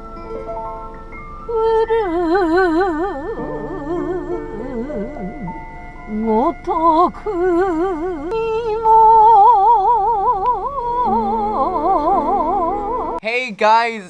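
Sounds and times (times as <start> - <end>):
slow melody with vibrato: 0.0 - 13.2
steady drones: 1.5 - 13.2.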